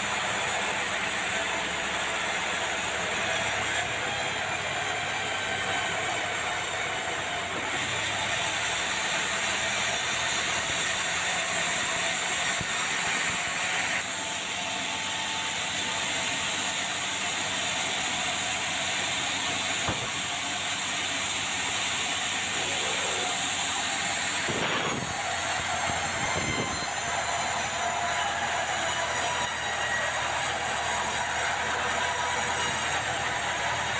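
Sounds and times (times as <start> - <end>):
sawmill saw cutting log: 0.0 - 33.9.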